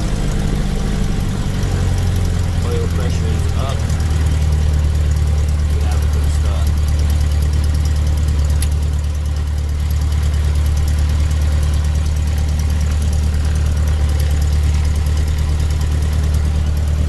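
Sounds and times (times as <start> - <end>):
aircraft engine idling: 0.0 - 17.0.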